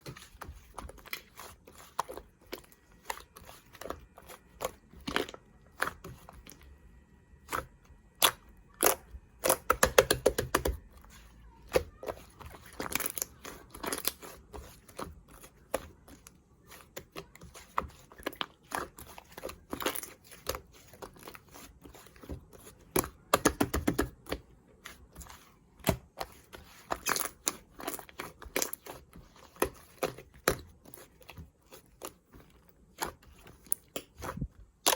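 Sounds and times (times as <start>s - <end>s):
slime squishing with sticky pops: 0.0s - 34.9s.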